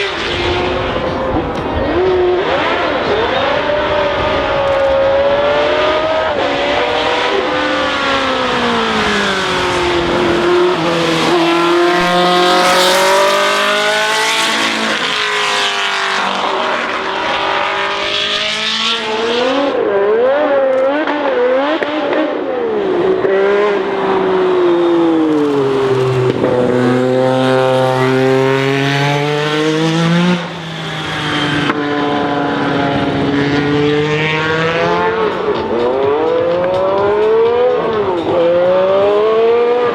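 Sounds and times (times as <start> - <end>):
racing cars at full throttle: 0.0 - 39.9.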